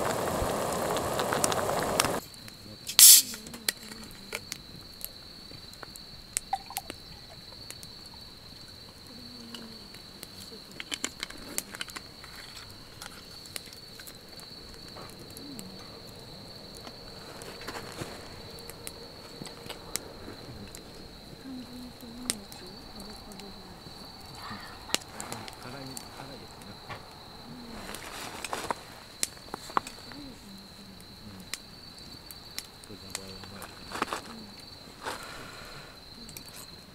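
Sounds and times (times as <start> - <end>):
campfire crackling and popping: 0.0 - 36.9
crickets chirring: 0.0 - 36.9.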